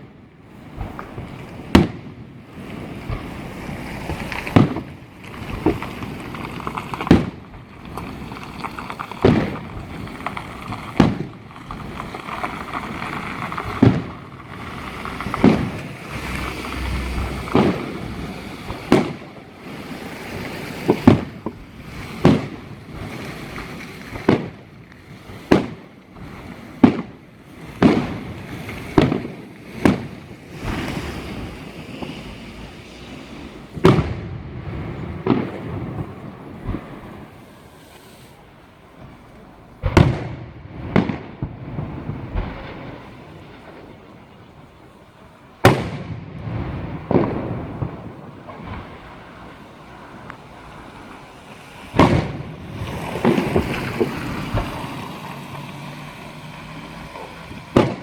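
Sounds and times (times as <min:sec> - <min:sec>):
firework bangs: 0:00.0 - 0:58.0
firework crackling: 0:00.0 - 0:58.0.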